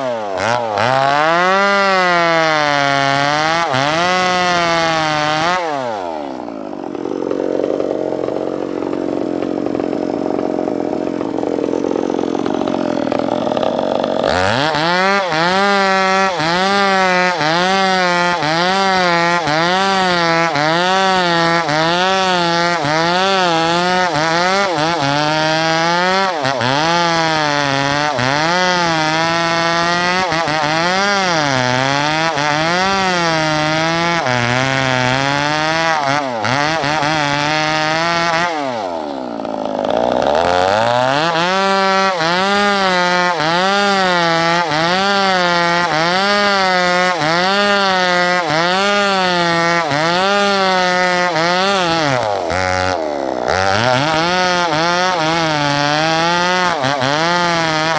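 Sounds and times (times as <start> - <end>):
chainsaw cutting log: 0.0 - 57.9.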